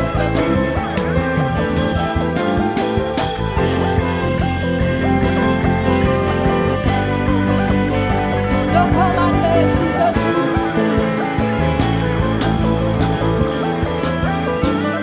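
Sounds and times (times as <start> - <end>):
bass: 0.0 - 15.0
drums: 0.0 - 15.0
guitar: 0.0 - 15.0
keyboard: 0.0 - 15.0.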